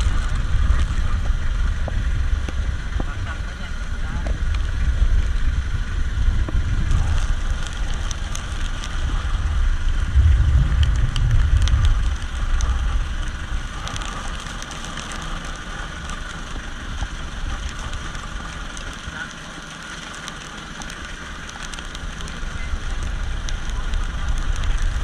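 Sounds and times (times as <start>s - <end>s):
wind buffeting microphone: 0.0s - 19.9s, 20.6s - 25.0s
rain and spray hitting: 0.0s - 25.0s.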